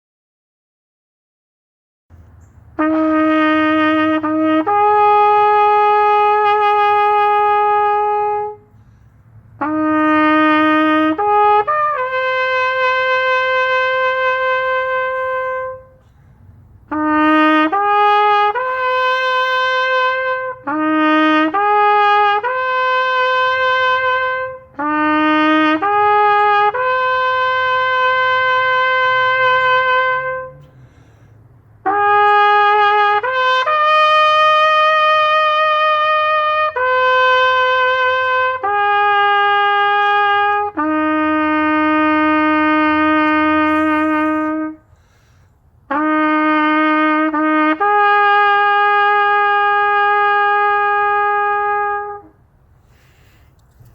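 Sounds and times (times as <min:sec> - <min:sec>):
solo trumpet bugle call: 0:02.8 - 0:53.8.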